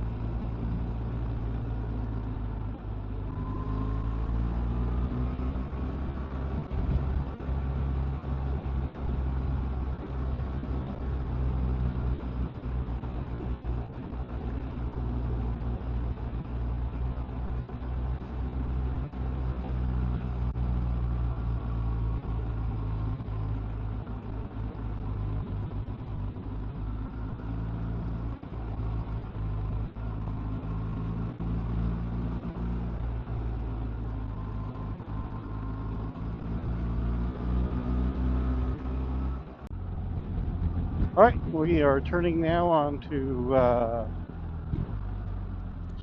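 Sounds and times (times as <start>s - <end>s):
motorcycle engine drone: 0.0s - 46.0s
wind and road noise: 0.0s - 46.0s.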